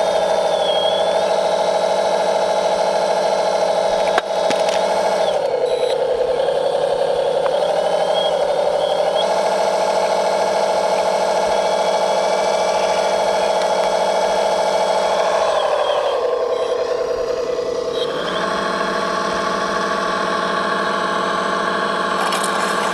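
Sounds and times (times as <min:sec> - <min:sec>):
model motor humming: 0:00.0 - 0:22.9.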